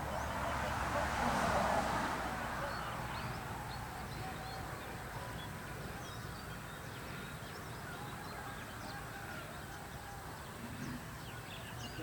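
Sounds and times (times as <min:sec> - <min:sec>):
birds chirping: 0:00.0 - 0:01.3, 0:02.5 - 0:12.0.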